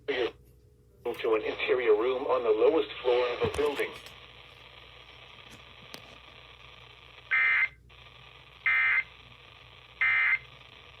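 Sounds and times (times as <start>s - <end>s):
radio hiss: 0.1s - 0.4s, 1.1s - 11.0s.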